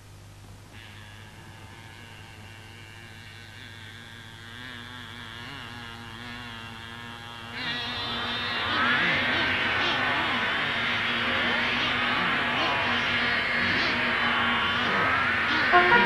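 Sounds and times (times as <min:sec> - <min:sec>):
low electrical hum: 0:00.0 - 0:16.0
fly buzzing: 0:00.7 - 0:16.0.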